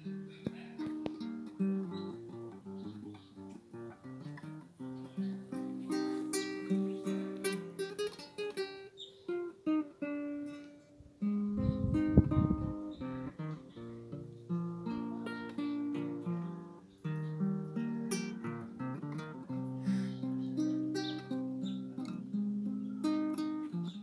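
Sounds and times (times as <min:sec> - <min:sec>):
acoustic guitar melody: 0:00.0 - 0:24.0.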